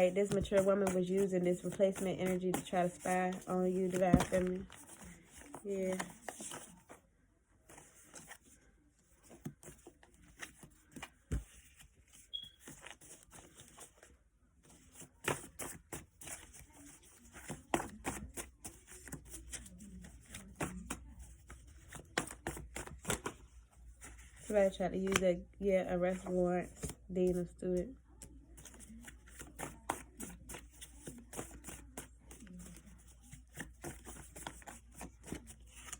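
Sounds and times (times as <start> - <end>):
cards being shuffled: 0.0 - 7.0, 9.2 - 14.1, 14.7 - 25.3, 28.2 - 35.9.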